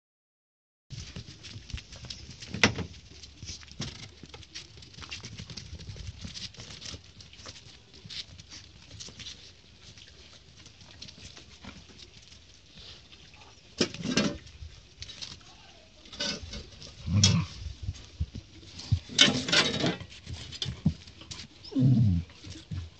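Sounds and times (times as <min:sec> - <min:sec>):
paws scrabbling on paving stones: 0:00.9 - 0:22.9.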